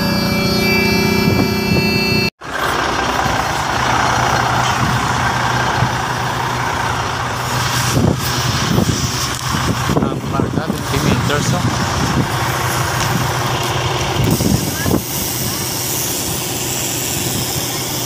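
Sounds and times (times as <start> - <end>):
truck engine idling: 0.0 - 18.0
broad background noise: 2.4 - 18.0.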